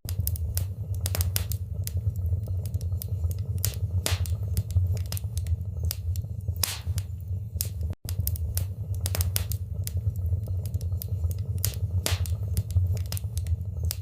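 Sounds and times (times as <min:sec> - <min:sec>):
fire crackling in a fireplace: 0:00.0 - 0:14.0.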